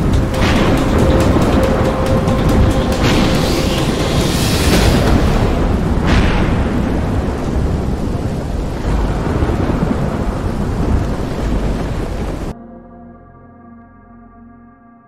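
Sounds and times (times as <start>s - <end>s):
rain hissing: 0.0s - 12.5s
rolling thunder rumble: 0.0s - 12.6s
sharp thunder crack: 0.0s - 12.6s.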